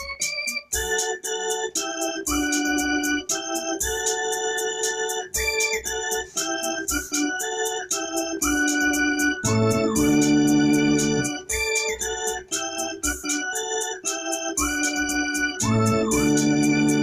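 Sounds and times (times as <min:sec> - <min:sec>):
electronic keyboard organ chords: 0:00.0 - 0:17.0
steady accompaniment beat: 0:00.0 - 0:17.0.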